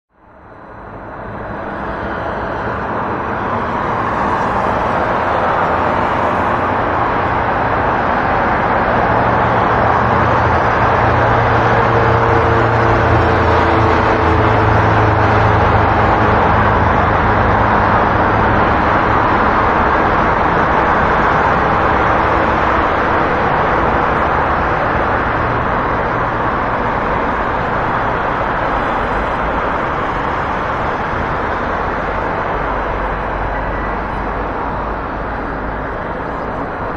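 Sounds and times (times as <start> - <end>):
low engine hum: 0.1 - 36.9
passing cars: 0.1 - 36.9.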